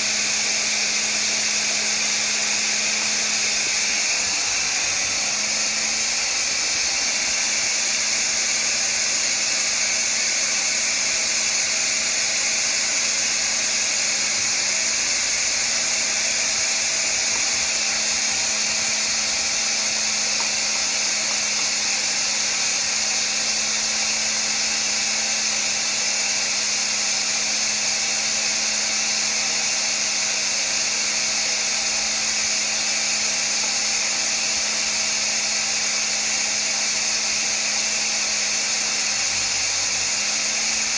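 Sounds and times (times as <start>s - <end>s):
vacuum motor running: 0.0s - 40.9s.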